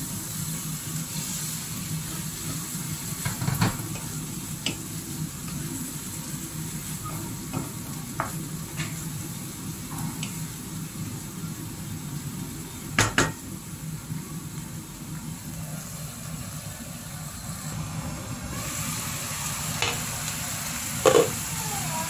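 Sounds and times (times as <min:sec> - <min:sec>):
eggplant sizzling in a wok: 0:00.0 - 0:22.0.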